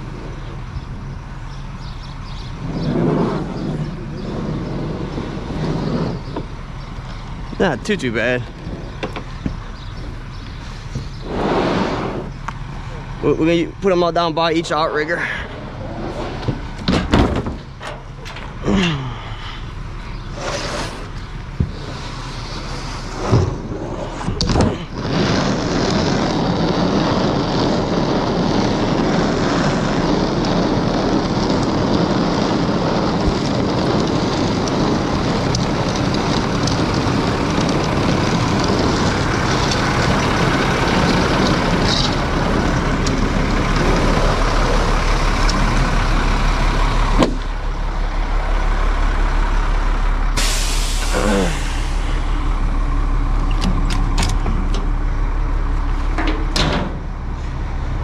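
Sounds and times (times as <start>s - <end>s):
crane engine running loudly: 0.0s - 58.0s.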